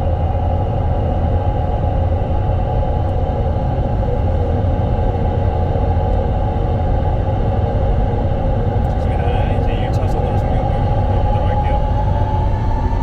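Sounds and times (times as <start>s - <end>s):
constant hum: 0.0s - 13.0s
road and drivetrain rumble: 0.0s - 13.0s.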